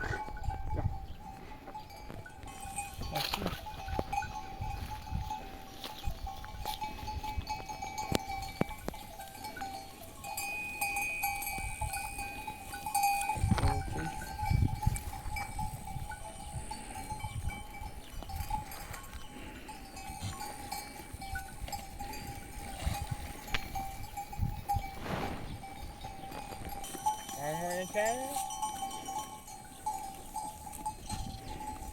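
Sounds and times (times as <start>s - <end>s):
livestock bells ringing: 0.0s - 25.0s, 25.6s - 31.9s.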